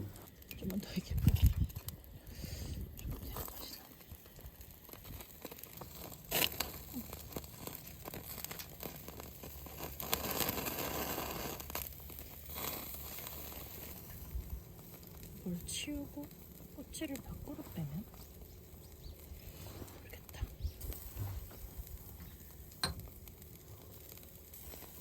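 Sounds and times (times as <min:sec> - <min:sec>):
crinkling rustling handling noise: 0:02.9 - 0:25.0.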